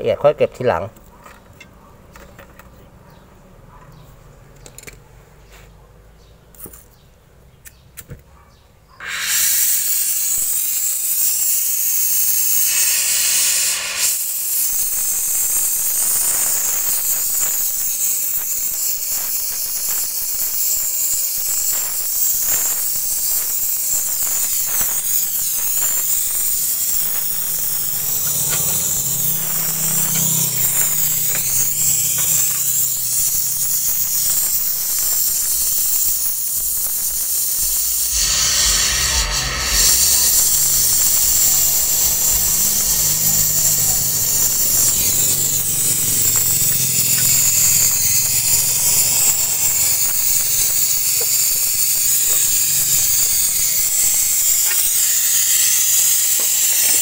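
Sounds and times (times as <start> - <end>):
gas brazing torch hissing: 9.0 - 57.0.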